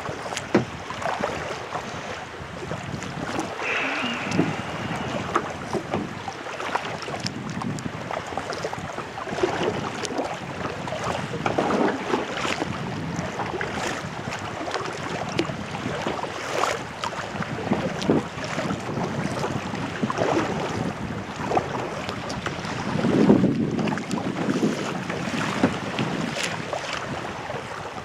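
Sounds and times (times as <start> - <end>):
paddle splashing in water: 0.0 - 28.0
water lapping against hull: 0.0 - 28.0
wind on microphone: 0.0 - 28.0.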